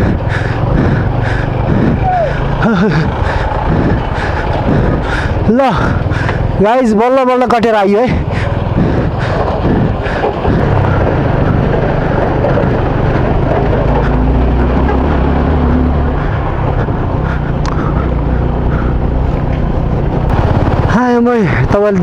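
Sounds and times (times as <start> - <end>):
dense rush of noise: 0.0 - 6.9, 7.7 - 22.0
motorcycle engine running: 0.0 - 22.0.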